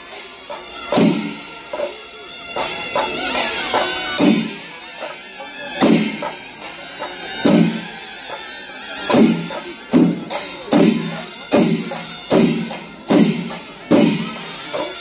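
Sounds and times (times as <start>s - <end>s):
drums beating a rhythm: 0.0s - 15.0s
hand cymbals clashing: 0.0s - 15.0s.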